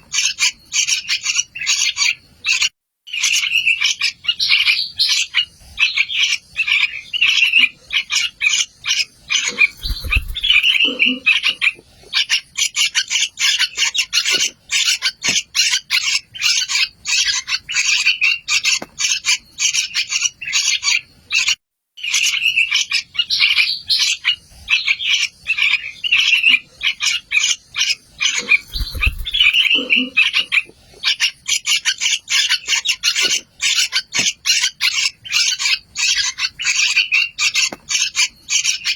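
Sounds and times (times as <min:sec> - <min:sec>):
young birds chirping: 0:00.0 - 0:38.9.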